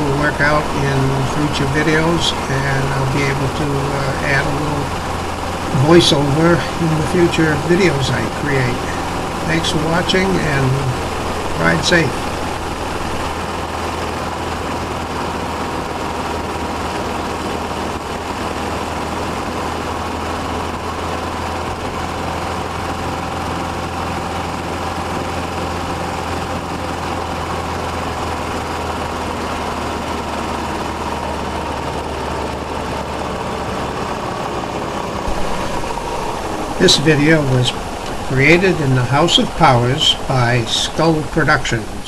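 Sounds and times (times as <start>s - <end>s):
motorcycle engine running: 0.0s - 41.7s.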